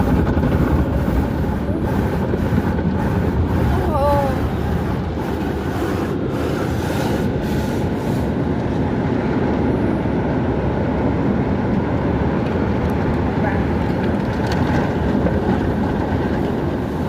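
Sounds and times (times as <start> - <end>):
car wash machinery rumbling: 0.0 - 17.0.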